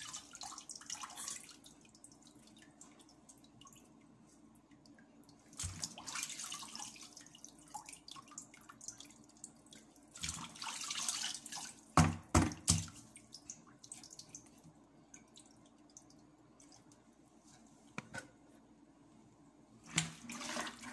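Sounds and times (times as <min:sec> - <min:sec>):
water splashing and dripping: 0:00.0 - 0:17.1.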